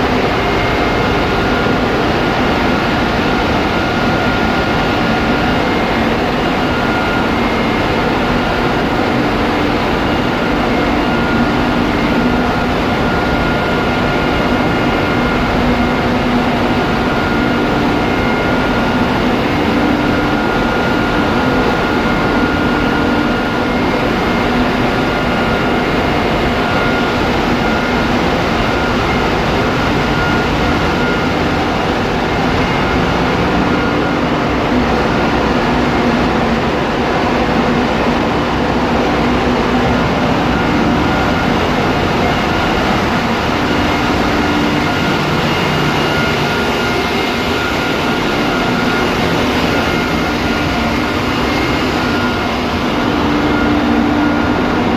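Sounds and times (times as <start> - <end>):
diesel engines running: 0.0 - 54.9
steady whining tones: 0.0 - 54.9.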